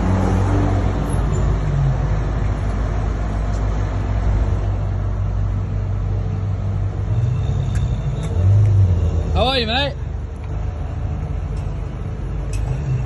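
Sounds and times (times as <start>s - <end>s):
lorry diesel engine rumbling: 0.0s - 13.0s.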